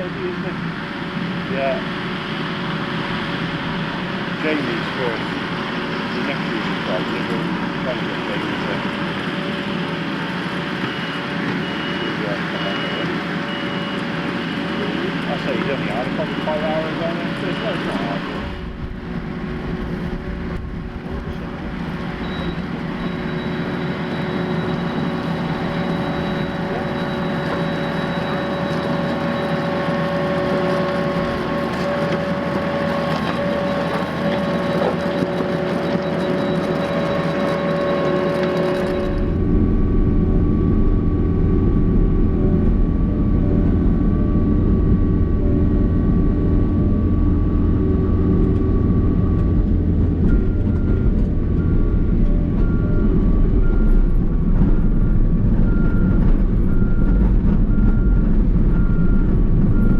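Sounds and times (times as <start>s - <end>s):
diesel engine running under load: 0.0s - 59.9s
steady whine: 0.0s - 59.9s.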